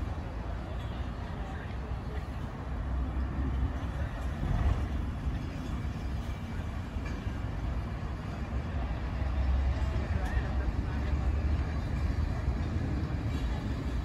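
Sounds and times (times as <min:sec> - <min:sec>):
train coaches rumbling on tracks: 0:00.0 - 0:14.0.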